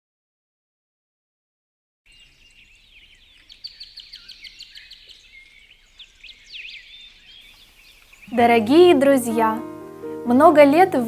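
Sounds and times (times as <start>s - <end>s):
small birds chirping: 2.1s - 11.0s.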